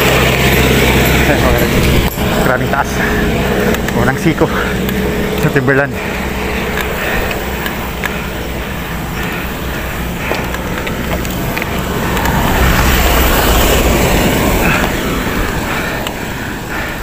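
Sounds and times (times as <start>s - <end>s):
bike tyres rolling on concrete: 0.0s - 17.0s.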